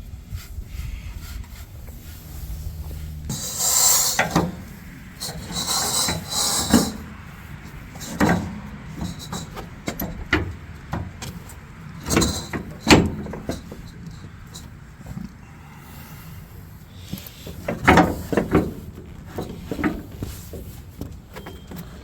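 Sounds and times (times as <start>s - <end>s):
scraping and rustling: 0.2s - 22.0s.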